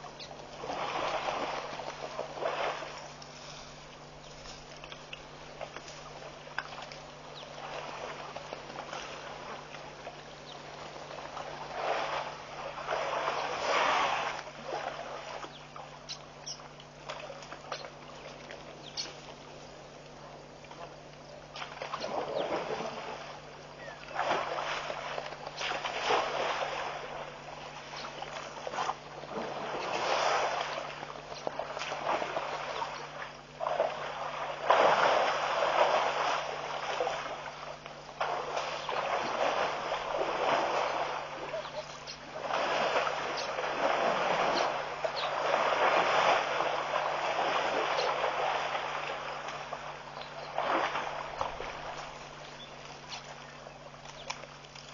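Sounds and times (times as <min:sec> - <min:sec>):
steady low hum: 0:00.0 - 0:54.9
water splashing and sloshing: 0:00.0 - 0:54.9.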